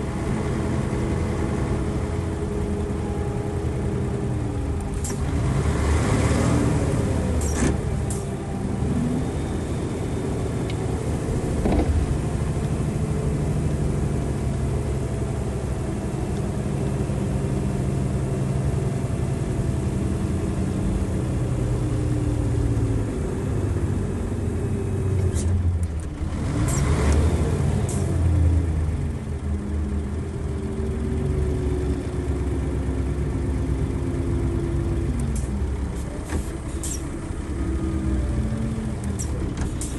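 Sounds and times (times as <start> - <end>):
diesel bus engine: 0.0 - 39.9.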